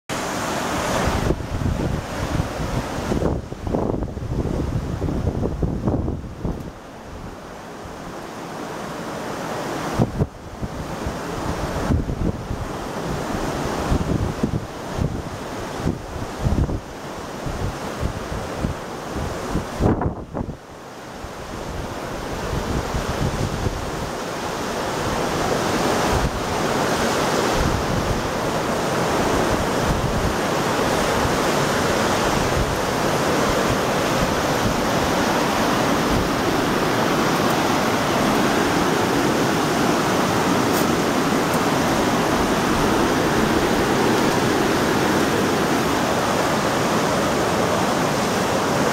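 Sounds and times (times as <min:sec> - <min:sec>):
river water rushing over stones: 0:00.1 - 0:48.9
wind buffeting microphone: 0:00.2 - 0:08.2, 0:09.8 - 0:48.9.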